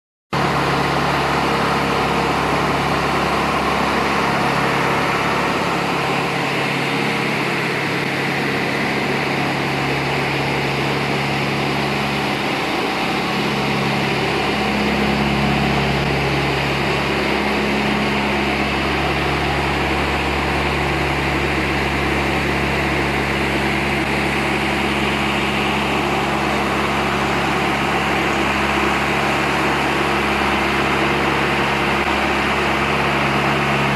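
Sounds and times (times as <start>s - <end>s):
broad mechanical noise: 0.4s - 33.9s
engine running steadily: 0.4s - 33.9s.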